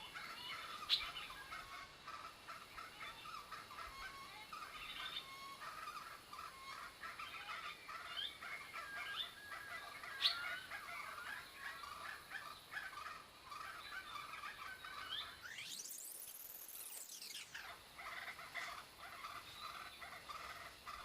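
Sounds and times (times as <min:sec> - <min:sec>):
birds chattering: 0:00.0 - 0:21.0.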